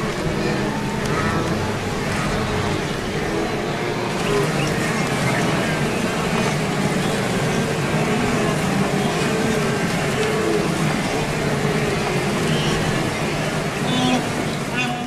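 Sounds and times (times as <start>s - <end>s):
herd moving through water: 0.0s - 15.0s.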